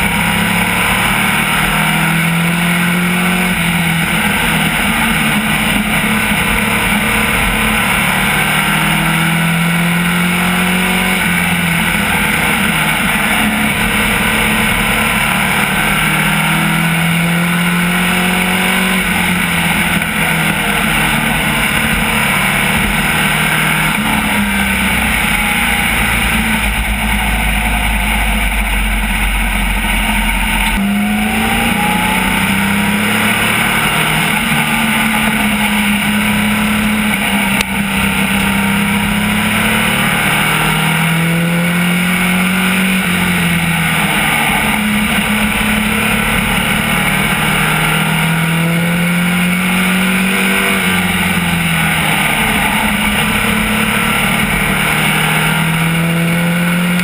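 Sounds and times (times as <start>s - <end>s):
racecar engine revving: 0.0s - 57.0s.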